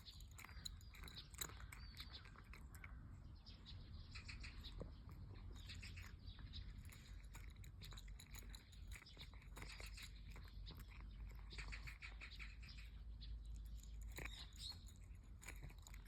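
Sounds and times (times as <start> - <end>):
cat chewing food: 0.0 - 16.0.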